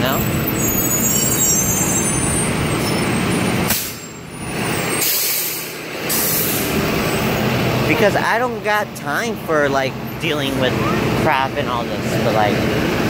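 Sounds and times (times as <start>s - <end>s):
bus engine: 0.0s - 13.0s.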